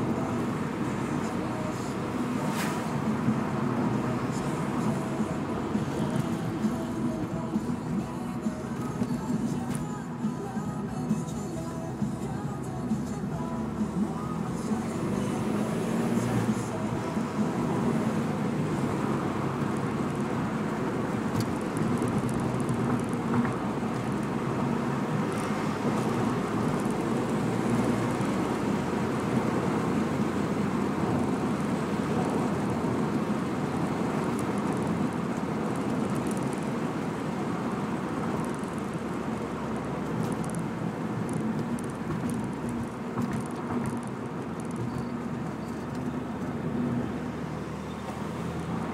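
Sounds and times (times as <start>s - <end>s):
car engine hum: 0.0s - 48.9s
road noise: 0.0s - 48.9s.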